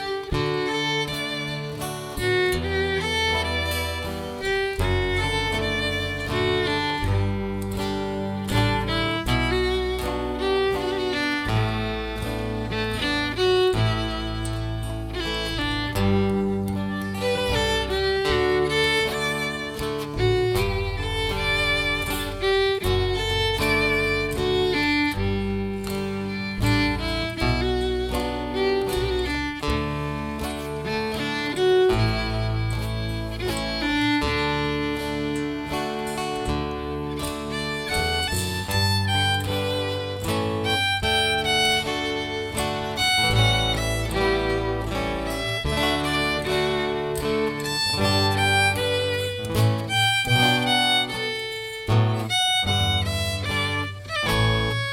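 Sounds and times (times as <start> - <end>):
bass line: 0.0 - 54.9
fiddle playing held notes: 0.0 - 54.9
guitar: 0.0 - 54.9.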